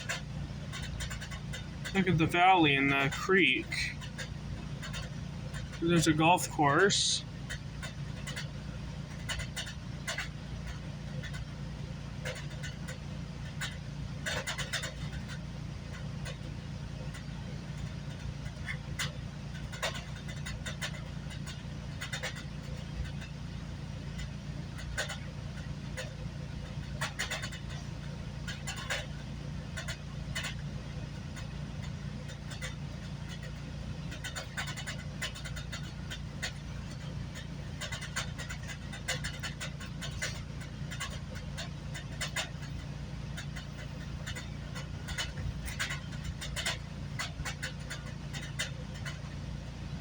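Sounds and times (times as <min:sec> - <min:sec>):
clicks and rattles: 0:00.0 - 0:49.8
train low rumble: 0:00.0 - 0:50.0.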